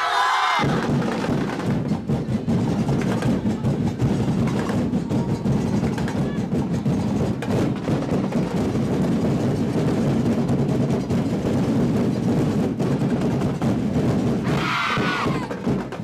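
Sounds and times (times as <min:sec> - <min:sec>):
percussion ensemble drumming: 0:00.6 - 0:16.0.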